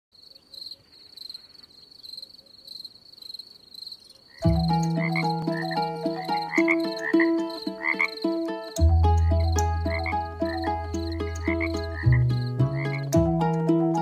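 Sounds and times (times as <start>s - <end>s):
frogs croaking: 0.2s - 13.2s
insects chirping: 0.2s - 13.2s.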